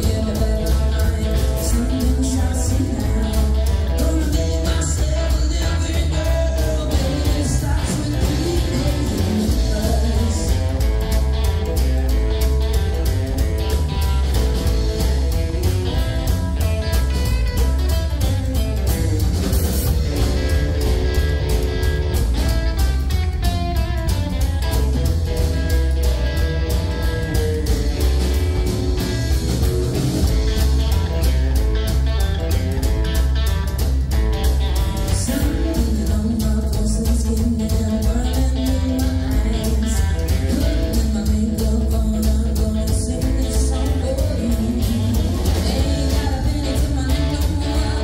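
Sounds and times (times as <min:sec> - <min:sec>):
drum kit steady beat: 0:00.0 - 0:48.0
electric guitar: 0:00.0 - 0:48.0
upright double bass: 0:00.0 - 0:48.0.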